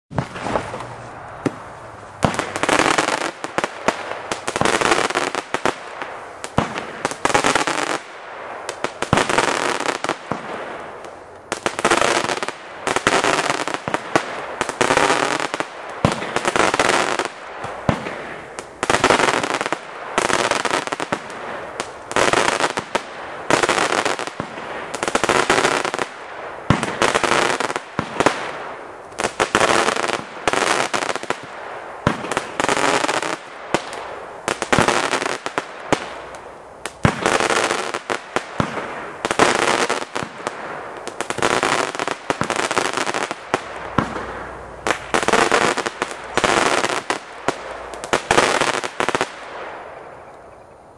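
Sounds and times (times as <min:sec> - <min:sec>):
firework bangs with crackle: 0:00.1 - 0:50.2.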